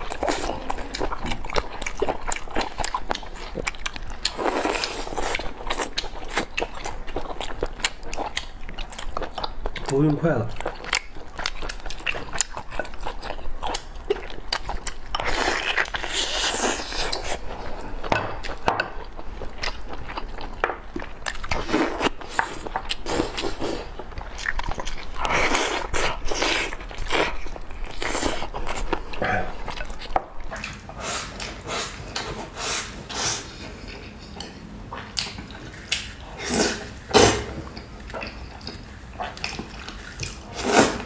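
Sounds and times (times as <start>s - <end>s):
chewing and biting food: 0.0s - 41.0s.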